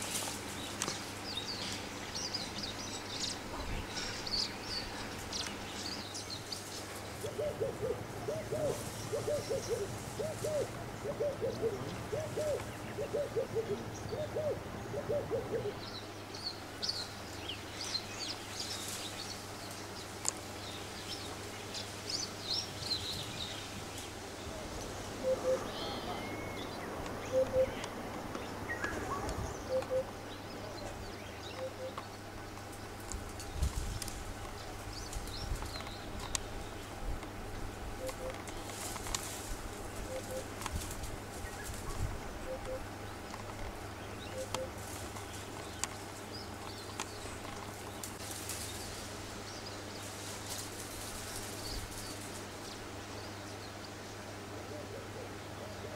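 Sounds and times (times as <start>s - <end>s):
bird calls and chirps: 0.0s - 38.9s, 40.0s - 40.6s, 41.4s - 54.2s.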